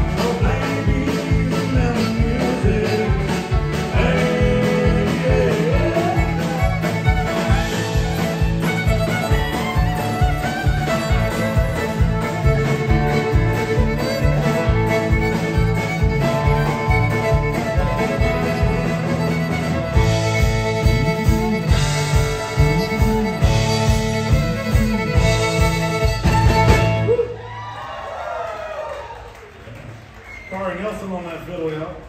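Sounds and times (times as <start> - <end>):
fiddle melody: 0.0 - 27.3
live country band: 0.0 - 28.4.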